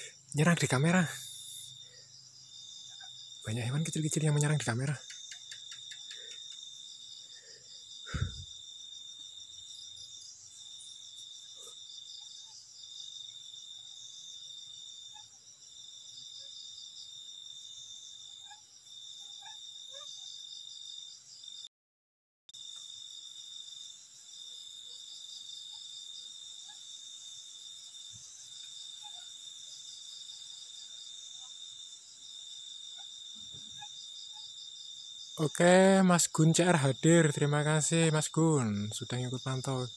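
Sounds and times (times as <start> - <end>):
pulsing insect calls: 0.0 - 21.6, 22.6 - 39.9
high insect trill: 0.0 - 21.7, 22.6 - 39.9.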